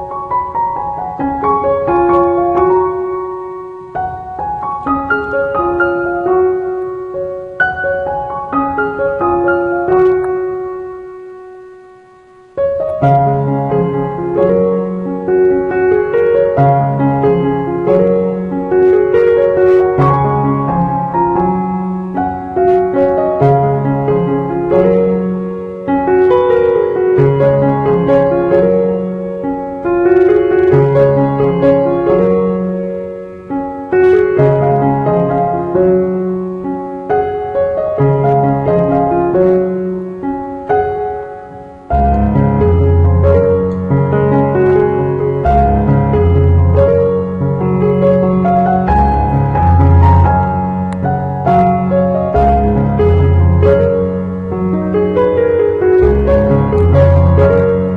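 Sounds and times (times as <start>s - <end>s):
piano music: 0.0s - 57.9s.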